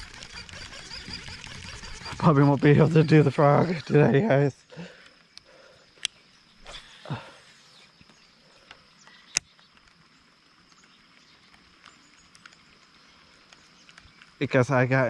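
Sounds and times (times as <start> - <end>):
small ticks and clicks: 0.0 - 4.0, 4.7 - 6.5, 7.9 - 15.0.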